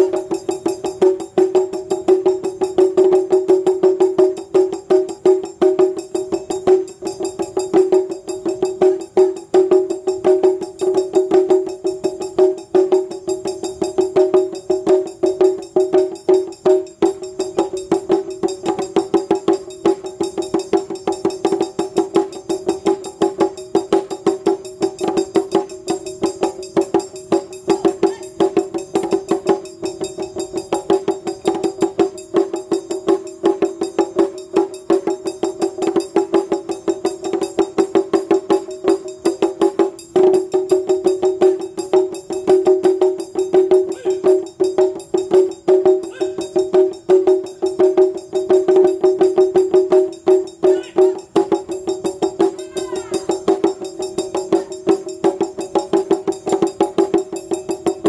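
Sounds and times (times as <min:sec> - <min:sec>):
taiko drums playing fast rhythm: 0:00.0 - 0:58.0.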